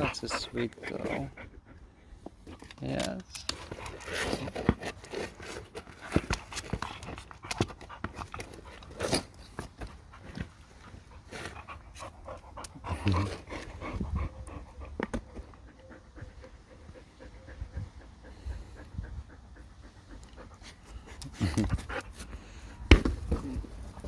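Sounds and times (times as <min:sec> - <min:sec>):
dog panting: 0:00.0 - 0:22.8.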